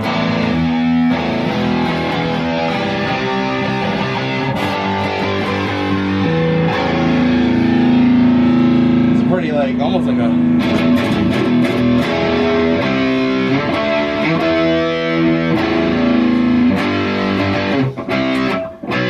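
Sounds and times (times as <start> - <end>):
electric guitar through amplifier: 0.0 - 19.0.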